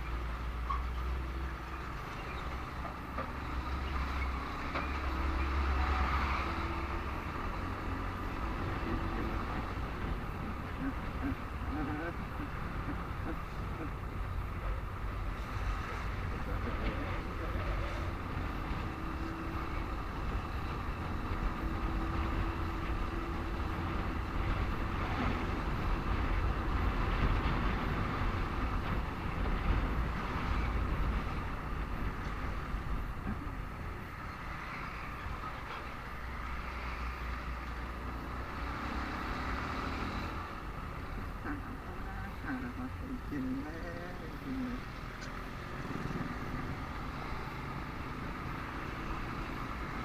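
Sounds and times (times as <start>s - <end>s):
rumble of passing vehicles: 0.0s - 50.0s.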